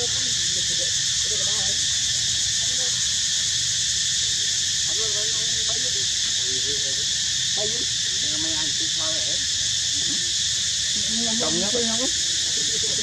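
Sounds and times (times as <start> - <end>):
faint wavering voices: 0.0 - 13.0
high insect drone: 0.0 - 13.0.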